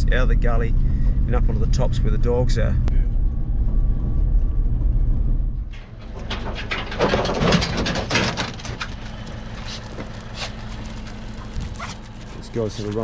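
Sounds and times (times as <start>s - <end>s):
truck rumbling: 0.0s - 13.0s.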